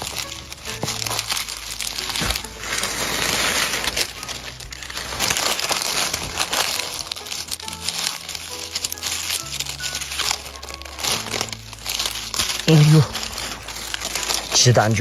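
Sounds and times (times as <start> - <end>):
dry leaves rustling and crunching: 0.0 - 15.0.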